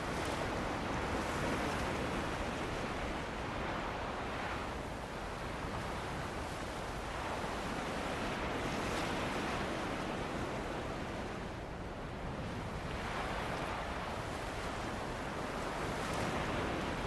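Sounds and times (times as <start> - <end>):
ocean surf washing onto beach: 0.0 - 17.0.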